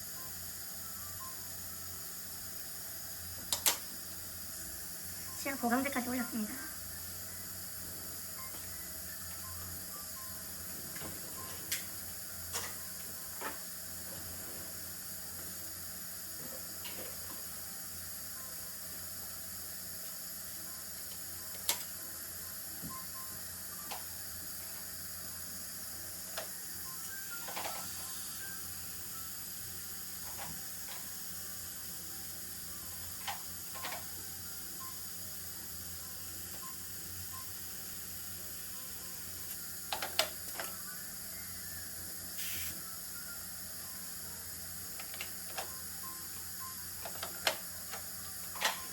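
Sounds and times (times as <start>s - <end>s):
dental equipment hiss and hum: 0.0s - 48.9s.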